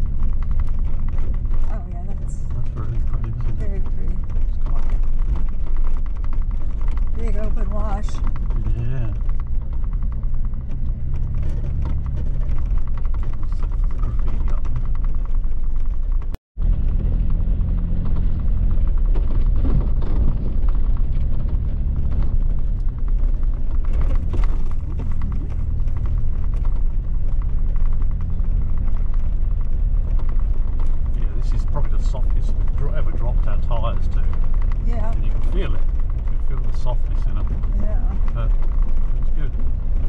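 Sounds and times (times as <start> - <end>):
small rattles and ticks: 0.0 - 40.0
vehicle engine and tyres rumbling: 0.0 - 40.0.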